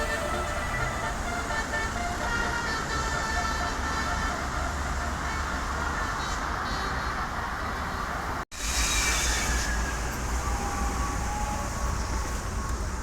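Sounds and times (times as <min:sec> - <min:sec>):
bus engines rumbling: 0:00.0 - 0:13.0
traffic noise: 0:00.0 - 0:13.0.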